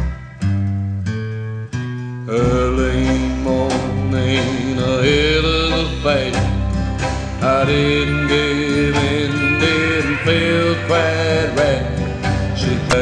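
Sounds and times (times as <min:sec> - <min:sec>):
held guitar chords: 0:00.0 - 0:13.0
bluegrass band playing: 0:02.4 - 0:13.0.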